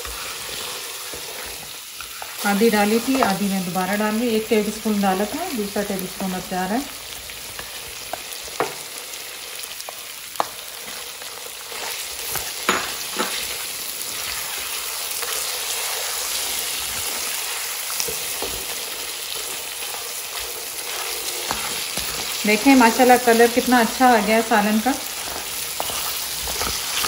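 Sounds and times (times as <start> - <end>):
meat sizzling in hot oil: 0.0 - 27.0.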